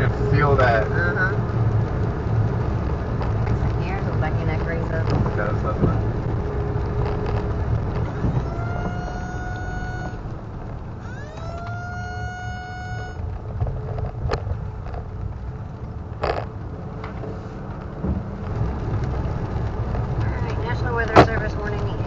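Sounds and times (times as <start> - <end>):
tornado warning siren: 0.0 - 22.0
vehicle noise: 0.0 - 22.0.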